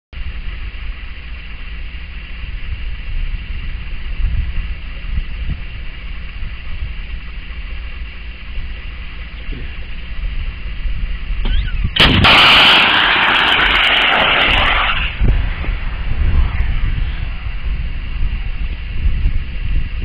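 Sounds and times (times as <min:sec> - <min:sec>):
high hiss: 0:00.2 - 0:20.0.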